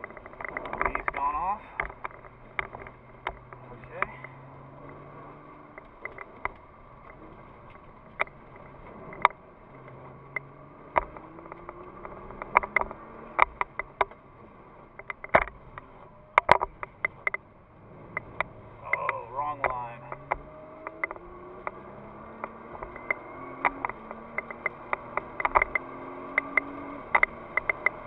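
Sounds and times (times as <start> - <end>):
sharp taps and clicks: 0.0 - 14.2, 14.9 - 17.5, 18.1 - 28.0
car engine running: 0.0 - 28.0.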